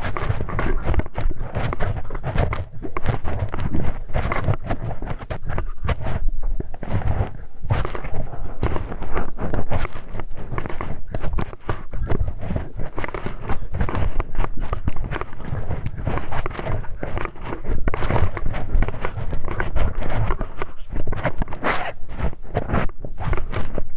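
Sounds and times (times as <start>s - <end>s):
tool scratching against microphone: 0.0s - 23.9s.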